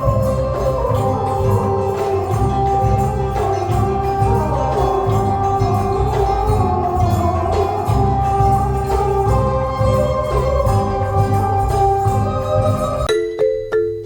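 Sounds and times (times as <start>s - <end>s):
steady percussion beat: 0.0s - 13.4s
sliding melody: 0.0s - 14.0s.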